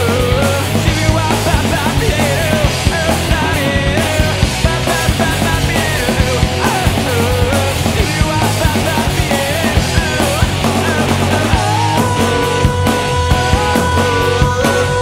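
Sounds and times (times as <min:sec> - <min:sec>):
fast drum beat: 0:00.0 - 0:15.0
loud rock music: 0:00.0 - 0:15.0.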